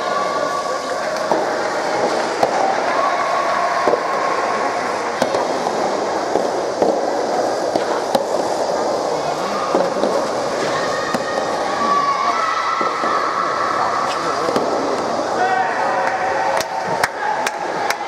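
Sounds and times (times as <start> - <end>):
murmur of venue noise: 0.0 - 18.0.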